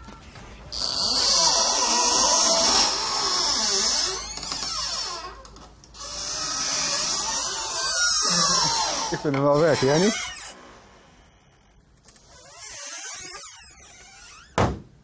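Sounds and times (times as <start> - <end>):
wooden planks creaking: 0.0 - 10.6, 12.1 - 14.8.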